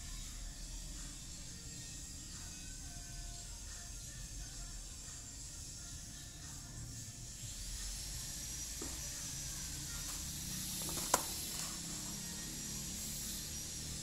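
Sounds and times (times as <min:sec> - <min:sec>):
high-pitched hiss: 0:00.1 - 0:14.0.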